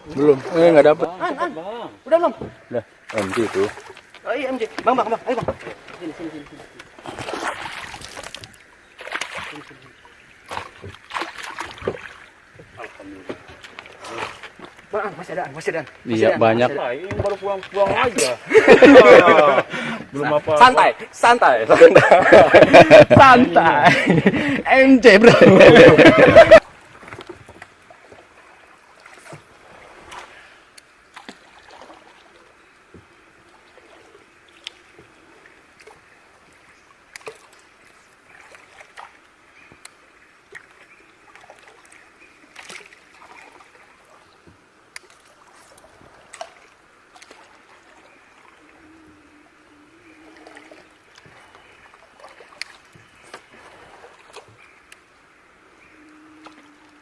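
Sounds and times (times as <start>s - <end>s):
small splashes: 0.0s - 16.1s, 25.9s - 57.0s
water lapping around boat: 0.0s - 57.0s.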